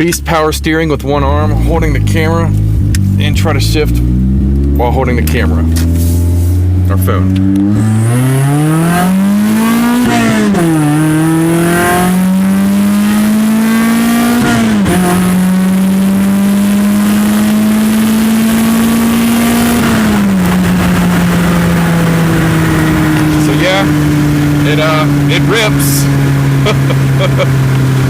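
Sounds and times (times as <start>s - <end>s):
car engine at full throttle: 0.0s - 28.0s.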